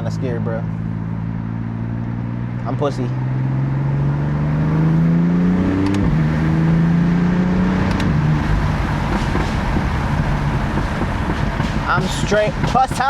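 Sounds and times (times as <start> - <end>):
car engine revving hard: 1.0 - 13.0.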